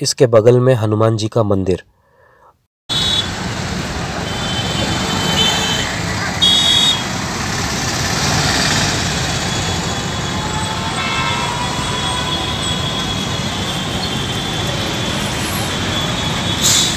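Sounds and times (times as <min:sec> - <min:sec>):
motorbike and rickshaw engines: 0:02.9 - 0:16.9.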